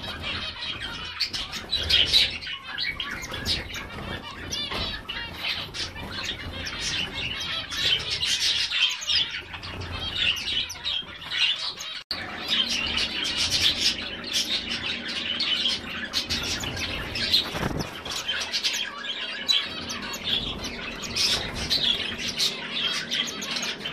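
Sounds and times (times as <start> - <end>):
finches chirping: 0.0 - 23.9.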